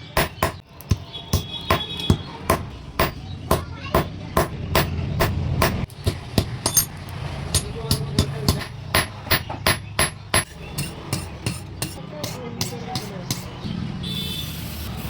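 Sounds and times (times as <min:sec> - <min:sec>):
hammer striking iron on anvil: 0:00.0 - 0:13.5.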